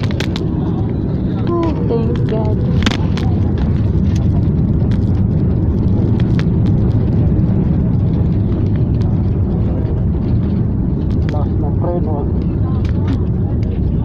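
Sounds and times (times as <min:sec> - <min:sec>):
jet engines and wheels rumbling: 0:00.0 - 0:14.0.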